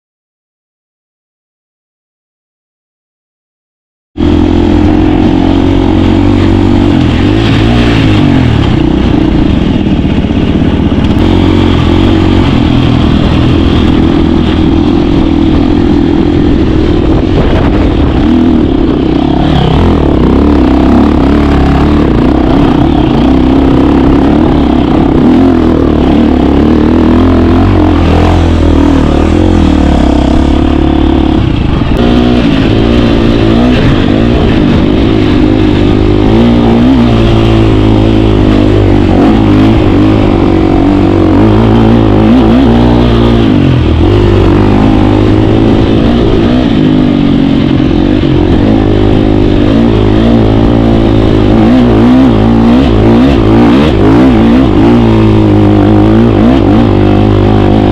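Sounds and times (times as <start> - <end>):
dirt bike engine revving: 4.2 - 57.9.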